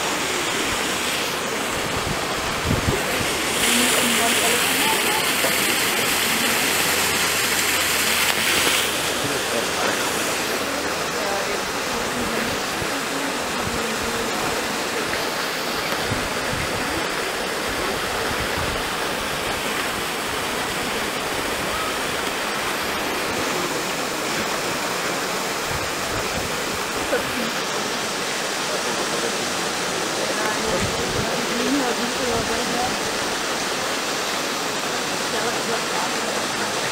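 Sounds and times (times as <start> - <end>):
water splashing: 0.0 - 36.9.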